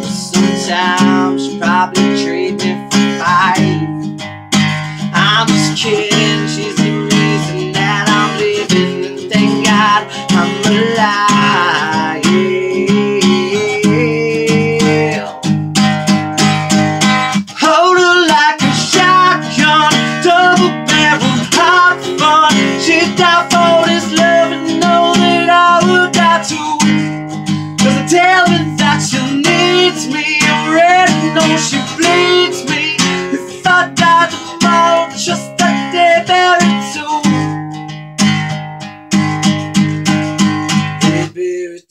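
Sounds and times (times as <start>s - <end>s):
man singing: 0.0s - 4.1s, 4.9s - 15.6s, 17.4s - 37.6s, 41.0s - 41.9s
strummed acoustic guitar: 0.0s - 41.8s.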